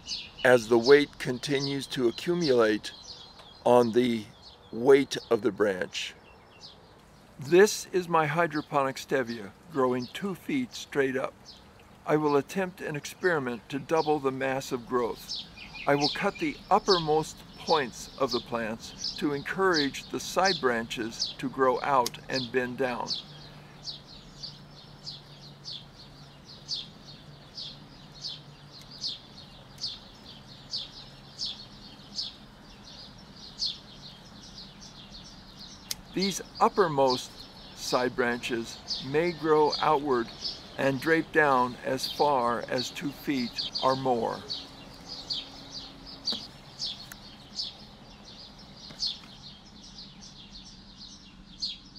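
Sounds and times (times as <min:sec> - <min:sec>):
small bird chirping: 0:00.0 - 0:51.9.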